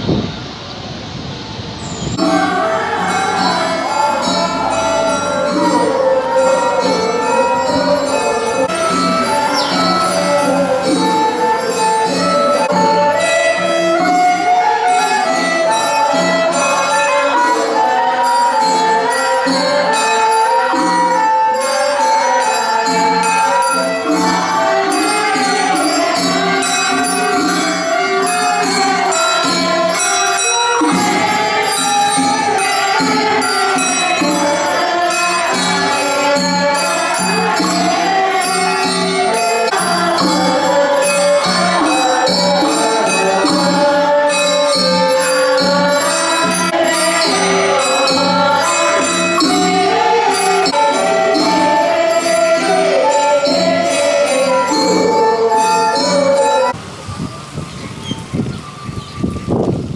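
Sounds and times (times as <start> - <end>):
background music with light percussion: 2.0 - 56.8.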